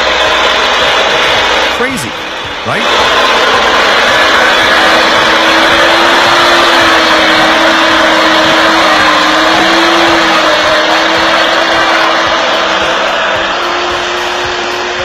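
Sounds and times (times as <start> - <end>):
tractor engine running at high revs: 0.0 - 15.0.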